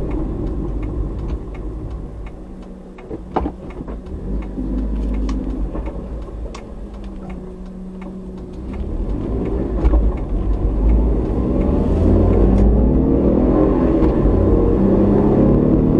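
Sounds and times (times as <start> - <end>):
car engine accelerating: 0.0 - 15.9
road rumble: 0.0 - 15.9.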